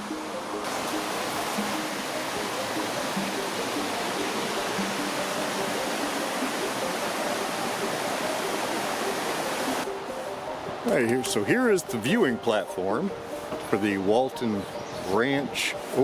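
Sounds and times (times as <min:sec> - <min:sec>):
flowing water: 0:00.0 - 0:16.0
soft background music: 0:00.0 - 0:16.0.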